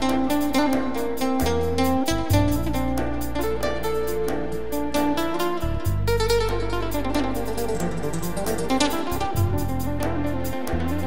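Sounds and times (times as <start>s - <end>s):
drum kit and hand percussion: 0.0s - 11.0s
electric guitar: 0.0s - 11.0s.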